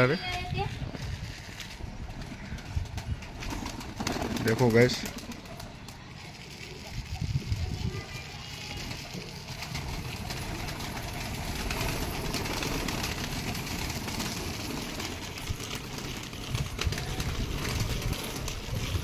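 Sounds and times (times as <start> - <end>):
pigeon wings flapping: 0.5 - 19.0.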